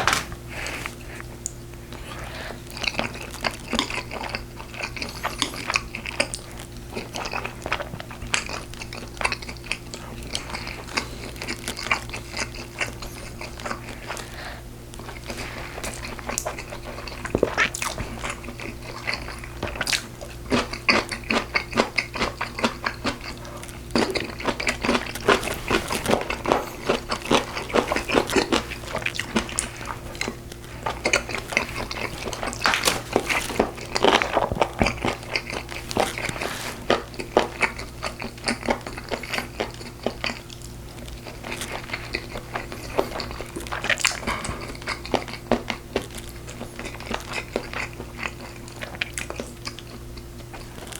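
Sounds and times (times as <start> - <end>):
chewing and biting: 0.0 - 50.9.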